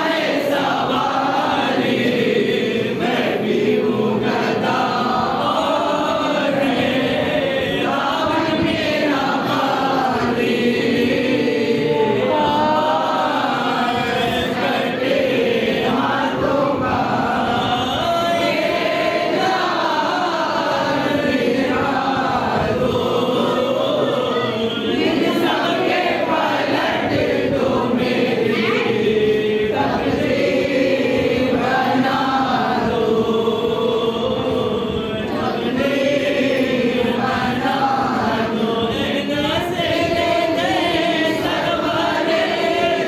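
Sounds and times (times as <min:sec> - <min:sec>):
group of voices chanting: 0:00.0 - 0:43.0.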